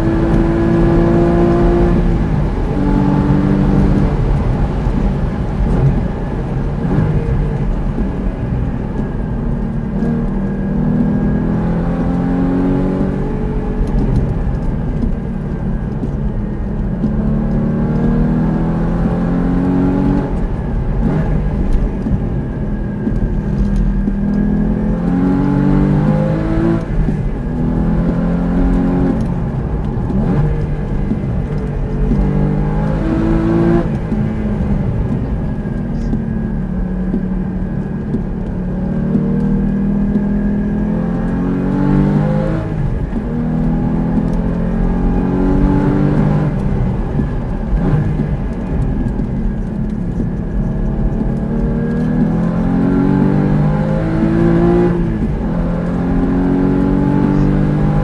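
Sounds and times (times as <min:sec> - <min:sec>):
sports car engine revving: 0:00.0 - 0:58.0.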